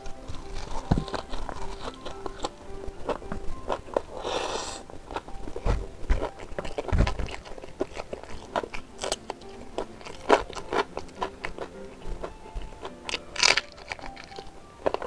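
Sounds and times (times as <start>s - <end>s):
crisp crunches: 0.0s - 15.0s
man chewing wetly: 0.0s - 15.0s.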